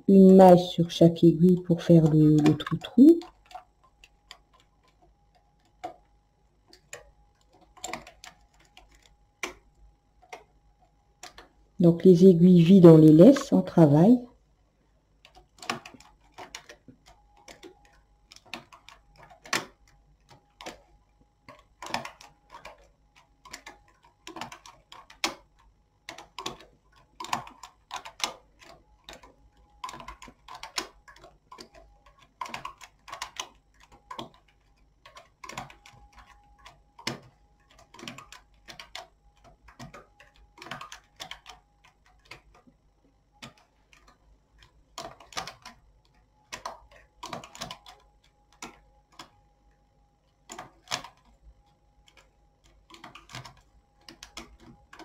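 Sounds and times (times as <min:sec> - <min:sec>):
knitting machine needles clicking: 0:00.0 - 0:14.4, 0:15.2 - 0:55.0.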